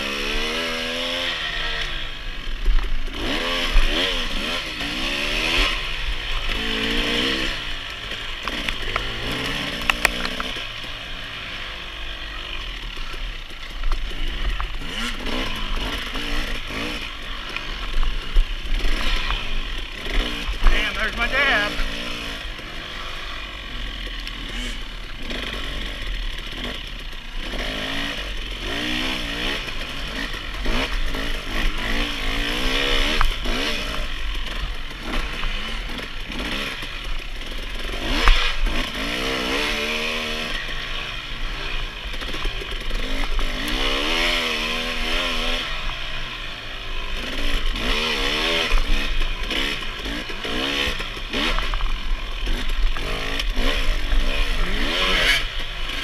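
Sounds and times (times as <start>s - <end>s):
dirt bike engine revving: 0.0s - 56.0s
bike rattling and clatter: 1.9s - 46.4s, 47.0s - 56.0s.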